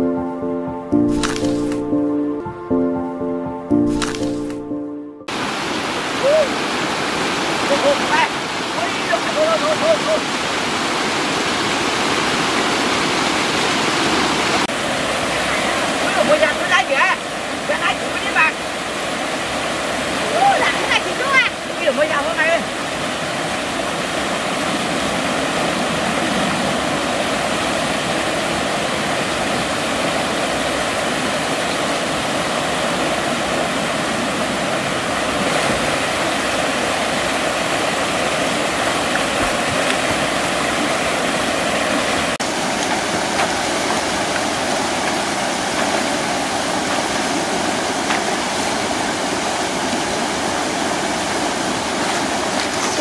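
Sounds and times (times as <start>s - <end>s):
small waterfall rushing: 5.3s - 53.0s.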